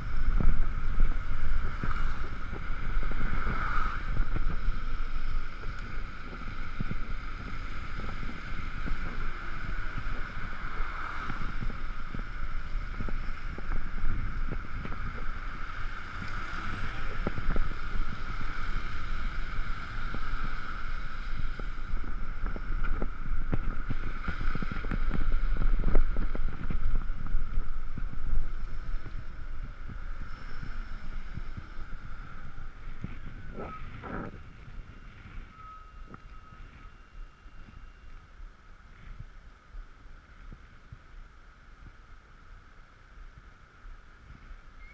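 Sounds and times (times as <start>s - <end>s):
electric scooter drivetrain whine: 0.0s - 44.9s
road and tyre noise: 0.0s - 44.9s
wind rushing over microphone: 0.0s - 44.9s.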